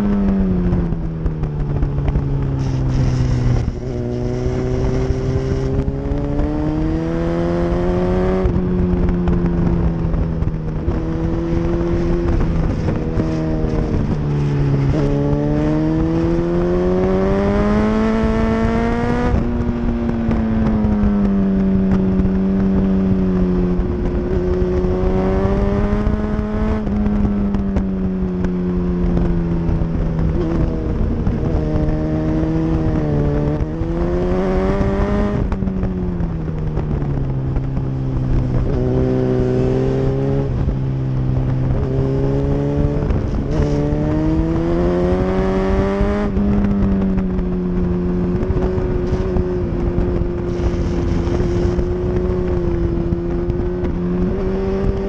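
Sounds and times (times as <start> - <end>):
motorcycle engine at speed: 0.0 - 55.0
wind rush: 0.0 - 55.0.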